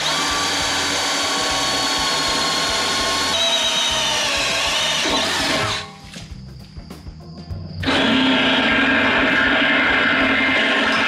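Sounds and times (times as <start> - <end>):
cordless drill whining into metal: 0.0 - 6.0, 7.8 - 11.0.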